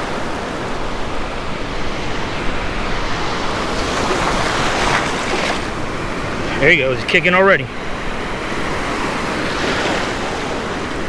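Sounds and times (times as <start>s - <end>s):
waves breaking on shore: 0.0s - 11.0s.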